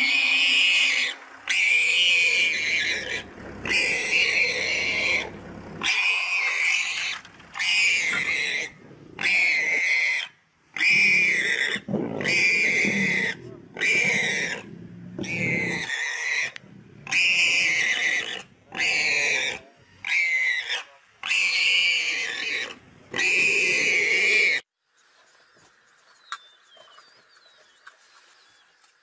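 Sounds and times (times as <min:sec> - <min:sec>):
warthog squealing: 0:00.0 - 0:24.6.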